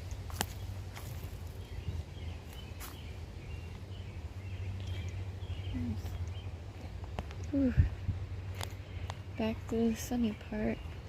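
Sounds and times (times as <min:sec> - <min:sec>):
faint birds chirping: 0:00.0 - 0:11.0
steady low rumble: 0:00.0 - 0:11.0.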